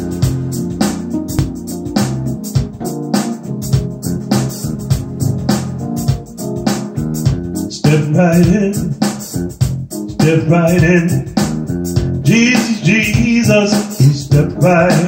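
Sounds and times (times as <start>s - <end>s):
electronic keyboard playing: 0.0s - 15.0s
steady drum beat: 0.0s - 15.0s.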